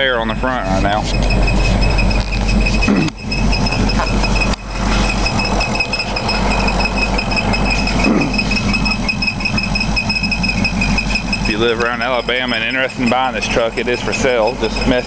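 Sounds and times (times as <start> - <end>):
high-pitched whine: 0.0 - 15.0
pickup engine idling: 0.0 - 15.0.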